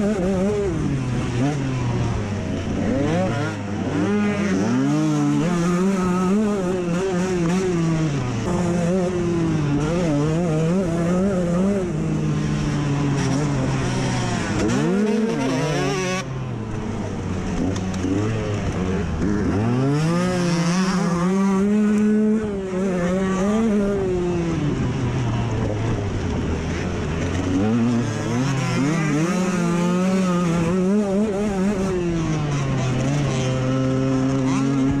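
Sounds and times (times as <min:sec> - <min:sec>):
dirt bike engine accelerating: 0:00.0 - 0:35.0.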